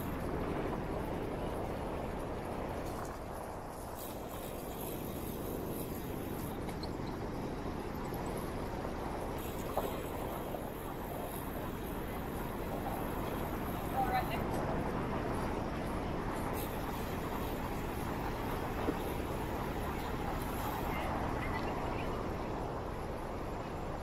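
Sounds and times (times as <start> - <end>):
bicycle ride rumbling: 0.0 - 24.0
city traffic: 0.0 - 24.0
wind on microphone: 0.0 - 24.0.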